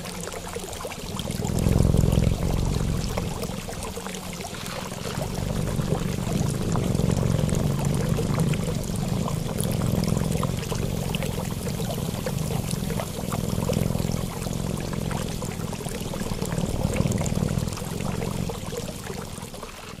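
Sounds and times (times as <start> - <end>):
running water pouring: 0.0 - 20.0
small water splashes: 0.0 - 20.0.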